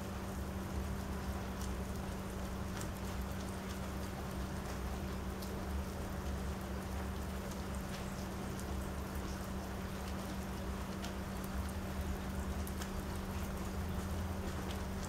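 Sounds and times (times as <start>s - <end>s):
rain on wooden deck: 0.0s - 15.0s.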